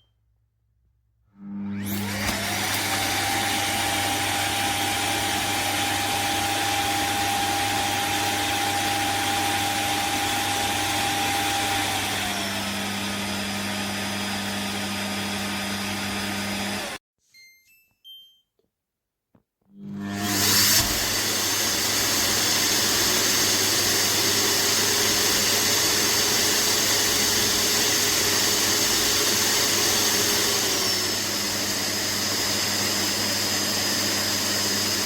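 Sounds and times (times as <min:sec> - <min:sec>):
vacuum motor whining: 0:01.4 - 0:17.0, 0:19.8 - 0:35.0.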